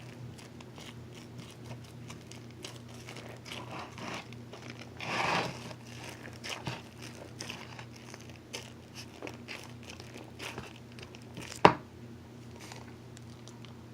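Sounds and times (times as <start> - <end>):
slime crackling and popping: 0.0 - 11.7.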